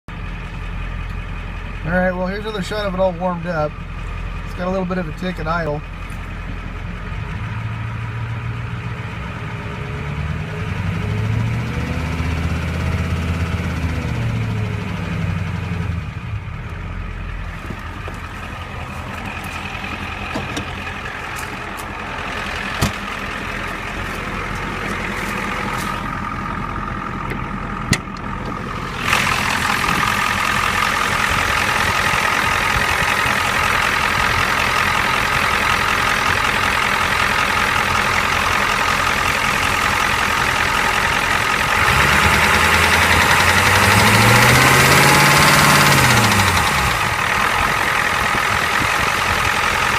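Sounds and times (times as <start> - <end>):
diesel engine idling: 0.1 - 49.9
engine ticking: 0.1 - 49.9.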